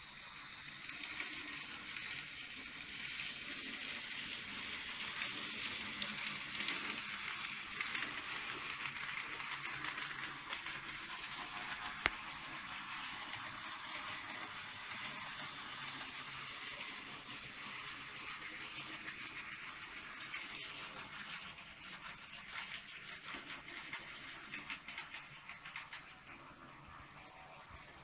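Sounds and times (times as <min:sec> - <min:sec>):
model train whirring on track: 0:00.0 - 0:28.0.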